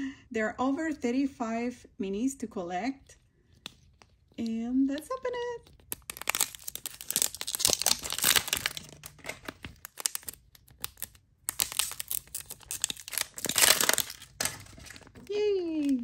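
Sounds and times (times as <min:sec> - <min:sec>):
plastic wrapping crinkling and tearing: 0:03.0 - 0:16.0.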